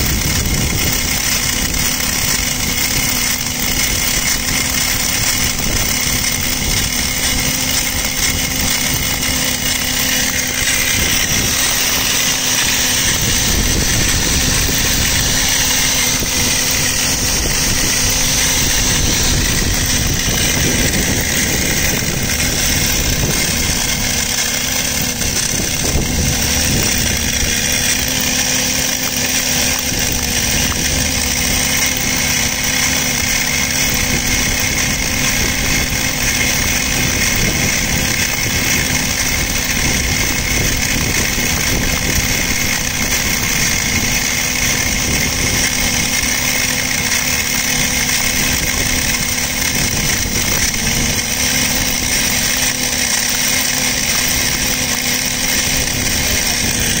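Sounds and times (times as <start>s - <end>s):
machine drone with hiss: 0.0s - 57.0s.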